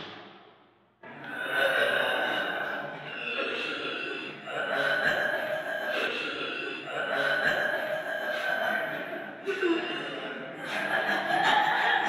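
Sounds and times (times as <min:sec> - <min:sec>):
zombies growling and moaning: 0:01.2 - 0:12.0.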